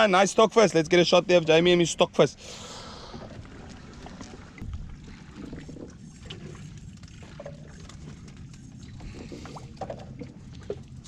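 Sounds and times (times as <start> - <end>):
boat engine hum: 0.0 - 11.0.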